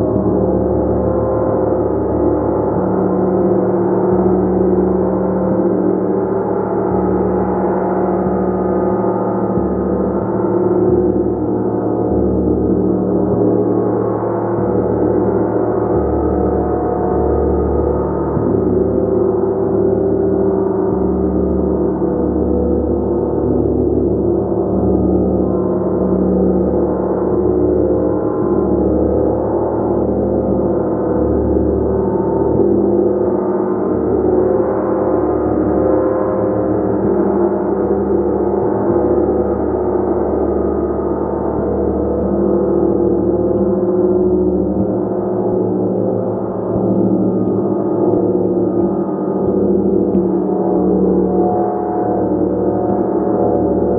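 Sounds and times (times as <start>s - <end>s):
deep throbbing hum: 0.0s - 53.9s.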